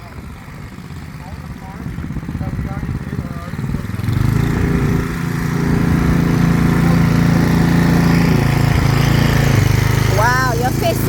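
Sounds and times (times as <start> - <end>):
small gasoline engine running: 0.0 - 11.0.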